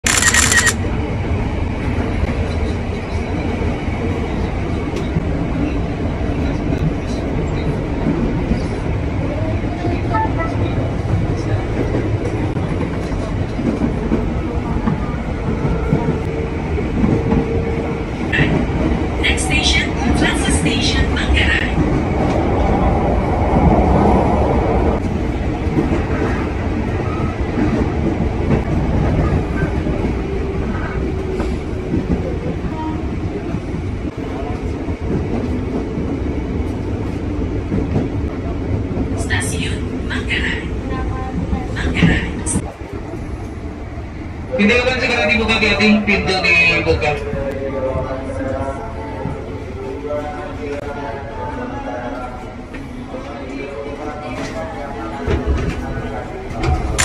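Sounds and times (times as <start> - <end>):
train carriage rumble: 0.0 - 57.0.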